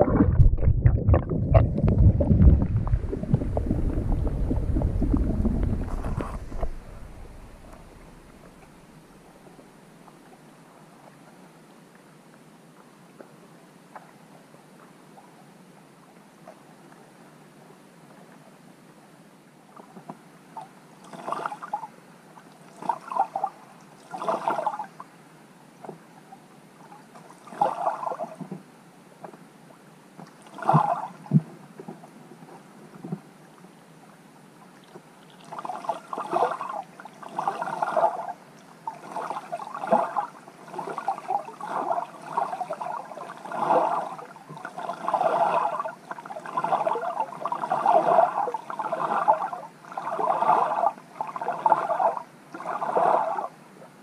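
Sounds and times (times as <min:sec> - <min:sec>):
underwater gurgling and sloshing: 0:00.0 - 0:54.0.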